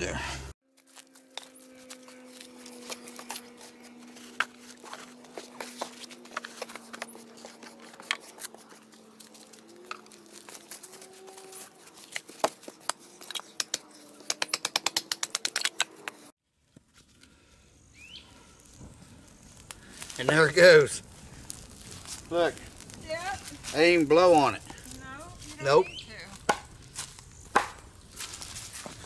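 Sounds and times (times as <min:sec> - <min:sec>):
kindling crackling and popping: 0:00.9 - 0:29.0.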